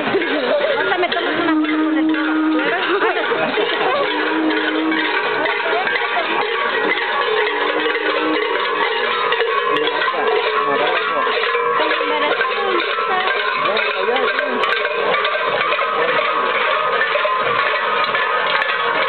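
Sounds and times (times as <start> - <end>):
crowd voices: 0.0 - 19.0
rattles and bells jingling: 0.0 - 19.0
traditional music: 0.0 - 19.0.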